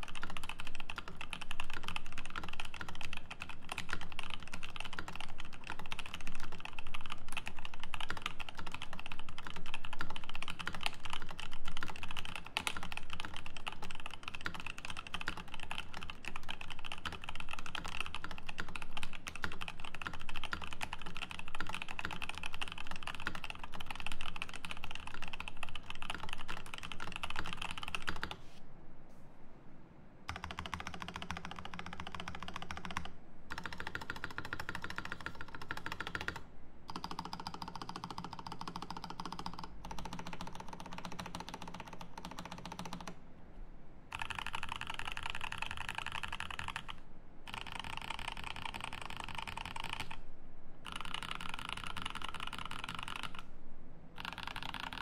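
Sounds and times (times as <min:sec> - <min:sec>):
mechanical keyboard typing: 0:00.0 - 0:28.4, 0:30.3 - 0:43.2, 0:44.1 - 0:50.2, 0:50.8 - 0:53.5, 0:54.2 - 0:55.0.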